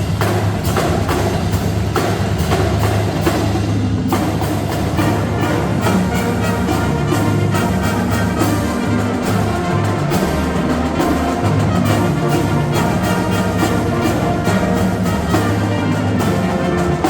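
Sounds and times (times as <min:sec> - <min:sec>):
brass instruments playing melody: 0:00.0 - 0:17.0
marching drums beating: 0:00.0 - 0:17.0.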